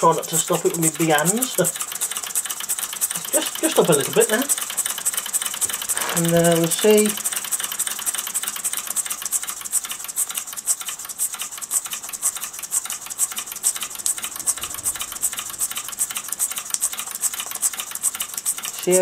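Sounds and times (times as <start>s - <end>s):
model steam engine ticking: 0.0s - 19.0s.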